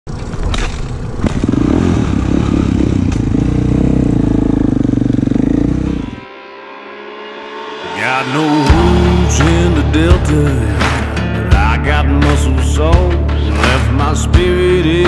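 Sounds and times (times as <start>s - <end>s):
motorcycle engine running: 0.1s - 13.2s.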